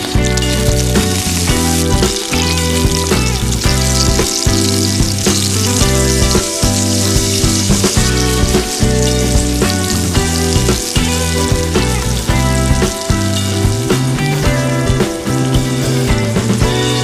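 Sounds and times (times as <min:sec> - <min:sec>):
background music with beat: 0:00.0 - 0:17.0
food sizzling in hot oil: 0:00.0 - 0:17.0.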